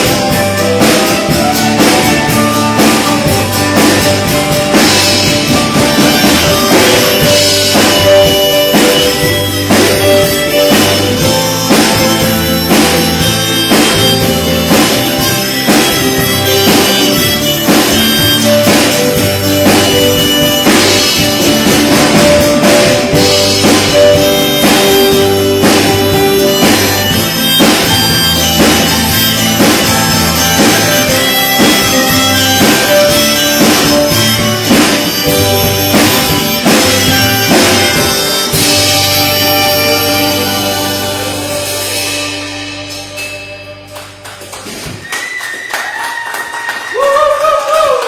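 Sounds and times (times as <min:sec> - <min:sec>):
steady drum beat: 0:00.0 - 0:43.2
live band playing: 0:00.0 - 0:48.0
long held melody notes: 0:00.2 - 0:44.2.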